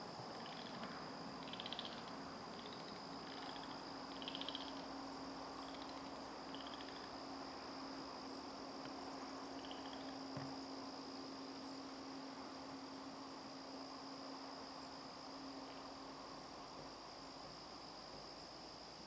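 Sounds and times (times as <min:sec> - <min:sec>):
insect chirping trills: 0:00.0 - 0:19.0
insects buzzing: 0:00.0 - 0:19.0.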